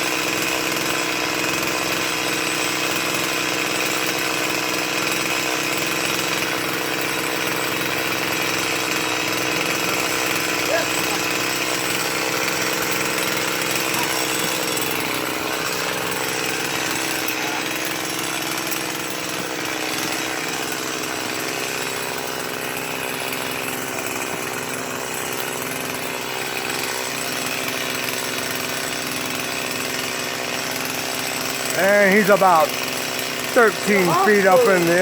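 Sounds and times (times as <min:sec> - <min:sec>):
small engine running steadily: 0:00.0 - 0:35.0.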